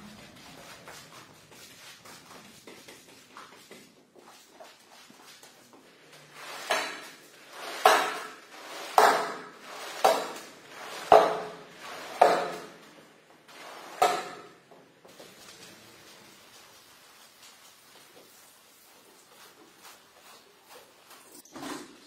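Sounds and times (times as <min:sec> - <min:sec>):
squeegee scraping wet carpet: 0:00.0 - 0:12.3, 0:13.5 - 0:14.1, 0:15.1 - 0:21.4.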